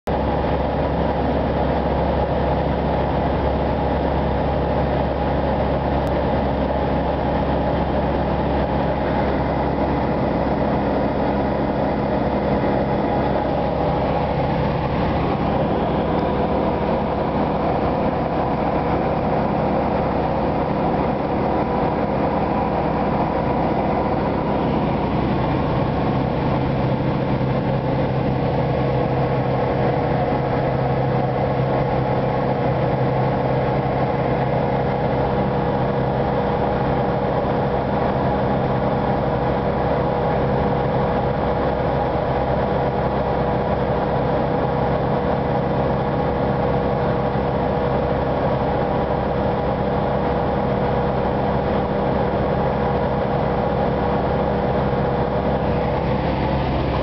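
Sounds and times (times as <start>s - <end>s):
aircraft engine and propeller drone: 0.0s - 57.0s
deeper hum: 0.0s - 57.0s.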